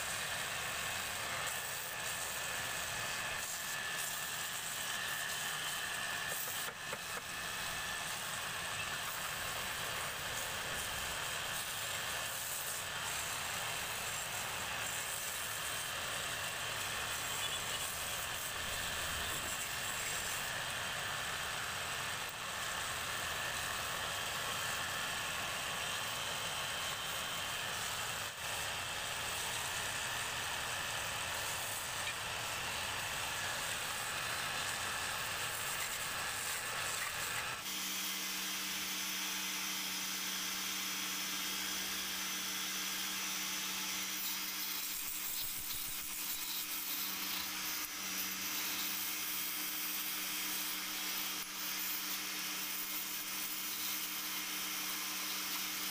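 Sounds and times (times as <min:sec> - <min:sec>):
hand tool cutting spinning wood: 0:00.0 - 0:55.9.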